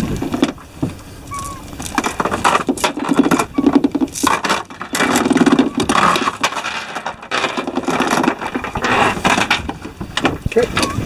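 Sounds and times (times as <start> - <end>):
rope scraping and rasping: 1.2 - 10.1.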